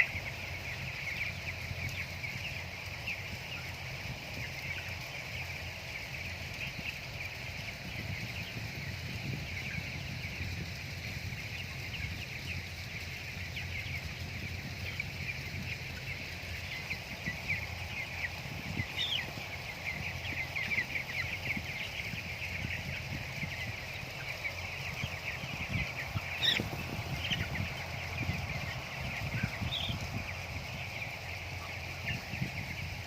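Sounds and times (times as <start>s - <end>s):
chickens peeping: 0.0s - 33.0s.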